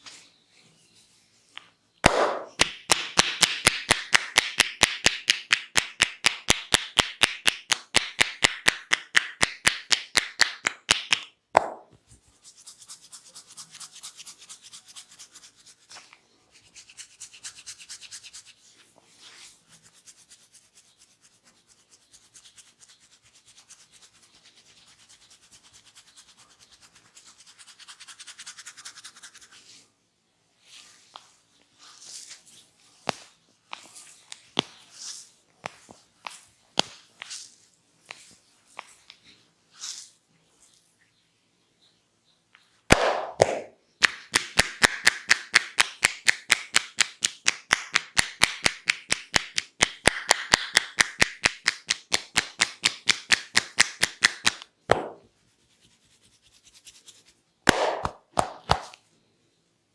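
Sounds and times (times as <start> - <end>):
hands massaging head: 1.5 - 29.9, 30.6 - 40.9, 42.9 - 59.1.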